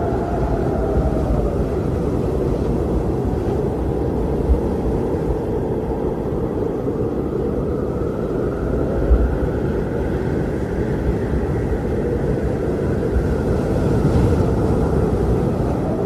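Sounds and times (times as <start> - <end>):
strong wind blowing: 0.0 - 16.0.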